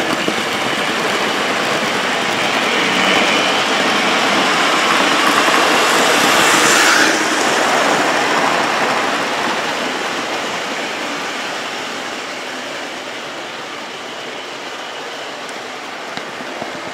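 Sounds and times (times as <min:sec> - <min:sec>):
model trains rumbling and rattling: 0:00.0 - 0:16.9.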